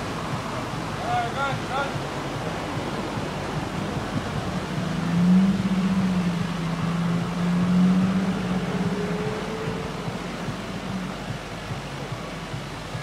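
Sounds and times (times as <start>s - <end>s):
boat engine running slowly: 0.0s - 13.0s
steady background rush: 0.0s - 13.0s.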